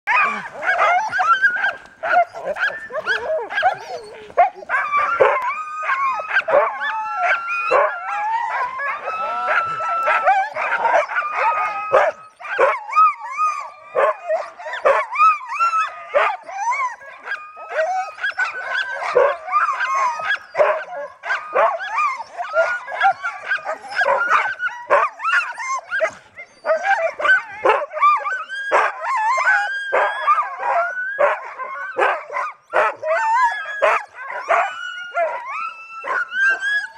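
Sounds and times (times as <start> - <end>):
sled dogs barking and howling: 0.1 - 36.9.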